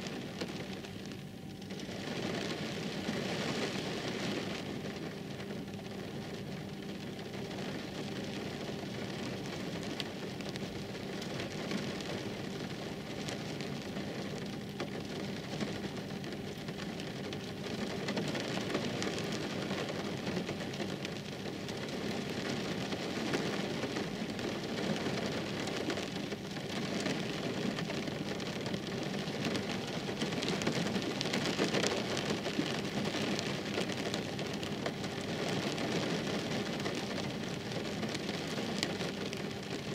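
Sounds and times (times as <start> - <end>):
heavy rain on wet road: 0.0 - 39.9.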